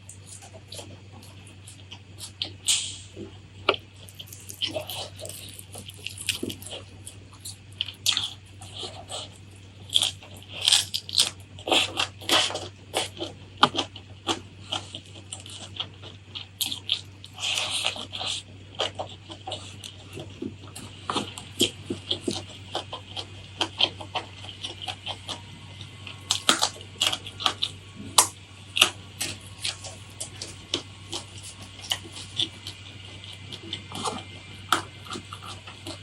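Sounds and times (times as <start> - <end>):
crunching bites: 0.0 - 36.0
wet chewing of food: 0.0 - 36.0.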